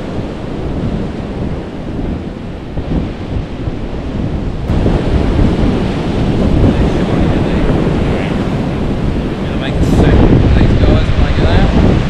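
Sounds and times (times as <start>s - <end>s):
surf washing: 0.0s - 12.0s
wind rumbling on microphone: 0.0s - 12.0s.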